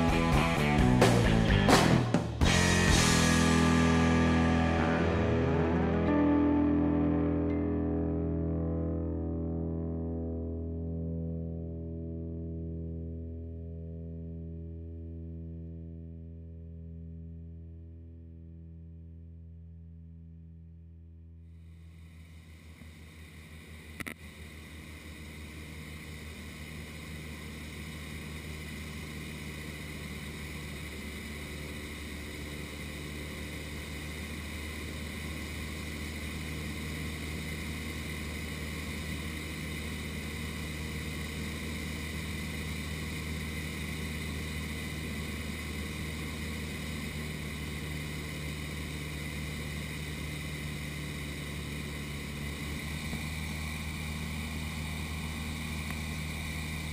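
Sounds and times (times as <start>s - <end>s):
light aircraft engine droning: 0.0s - 18.8s, 21.5s - 56.9s.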